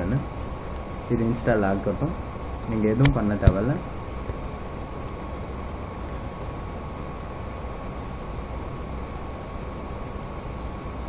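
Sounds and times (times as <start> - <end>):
background hiss and rumble: 0.0 - 11.0
faint constant whine: 0.0 - 11.0.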